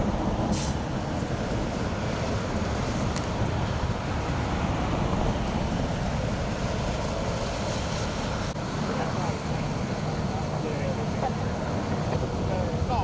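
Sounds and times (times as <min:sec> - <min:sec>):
freeway traffic rumble: 0:00.0 - 0:13.0.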